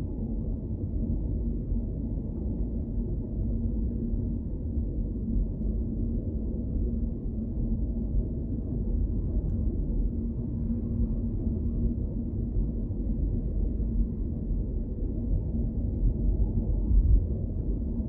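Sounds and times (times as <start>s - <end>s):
faint constant hum: 0.0s - 18.0s.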